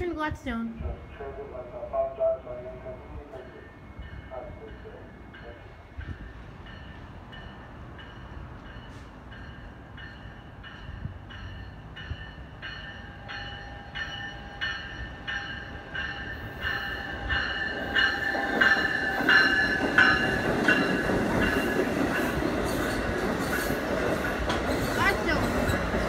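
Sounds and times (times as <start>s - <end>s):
wheels rumbling on rail: 0.2s - 26.0s
train bell ringing: 0.6s - 26.0s.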